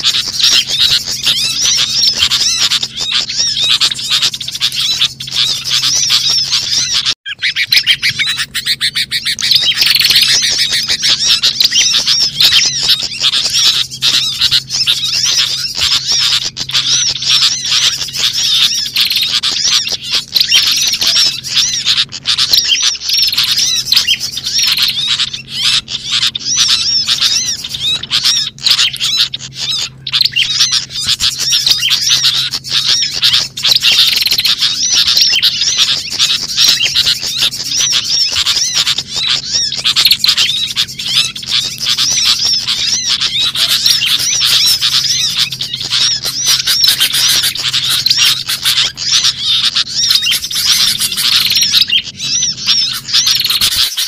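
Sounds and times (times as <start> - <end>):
small birds chirping chorus: 0.0 - 54.0
steady low hum: 0.0 - 54.0.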